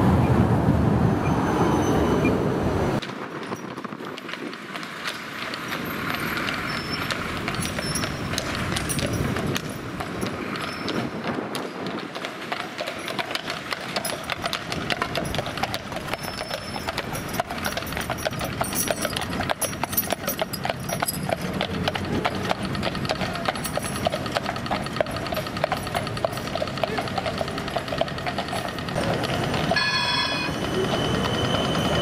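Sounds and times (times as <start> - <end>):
horse hooves clip-clopping on road: 3.0 - 32.0.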